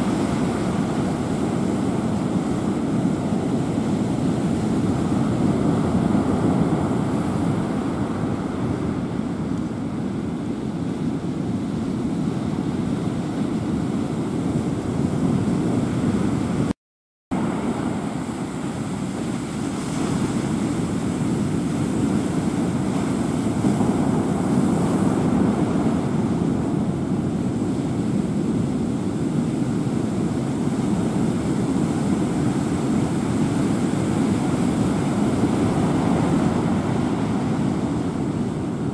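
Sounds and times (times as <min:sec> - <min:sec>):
sea: 0:00.0 - 0:38.9.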